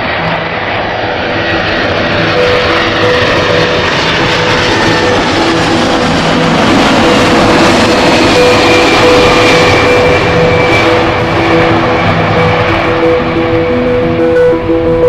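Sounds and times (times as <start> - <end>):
aircraft engine roar: 0.0 - 15.0
steady tones: 1.2 - 15.0.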